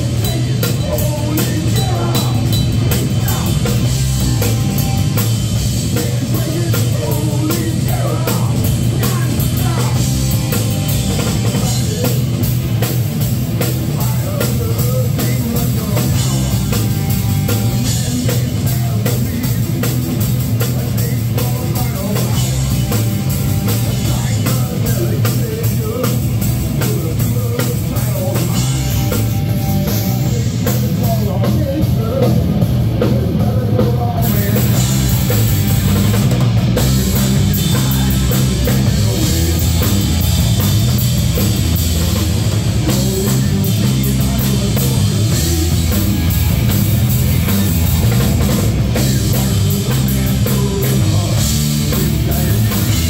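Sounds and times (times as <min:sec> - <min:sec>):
driving drum kit: 0:00.0 - 0:53.0
electric guitars: 0:00.0 - 0:53.0.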